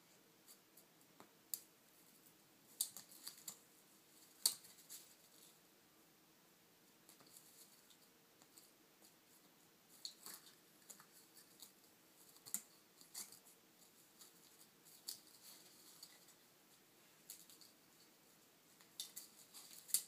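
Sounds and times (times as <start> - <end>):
faint small clicks and scratches: 0.0 - 5.6, 7.0 - 20.0.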